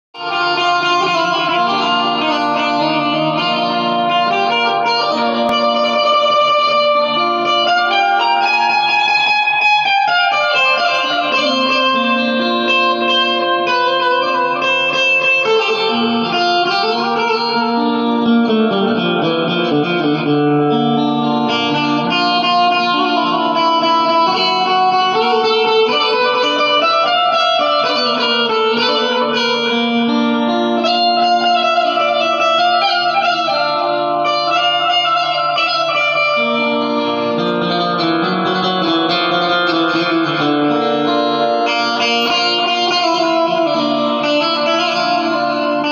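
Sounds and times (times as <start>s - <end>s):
plucked string zither melody: 0.2s - 45.9s.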